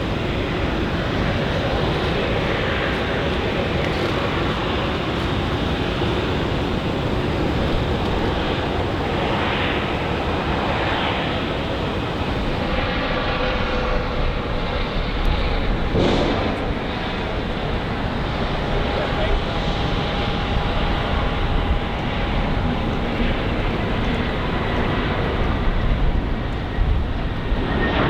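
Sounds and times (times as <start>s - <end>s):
jet engines rushing: 0.0s - 28.0s.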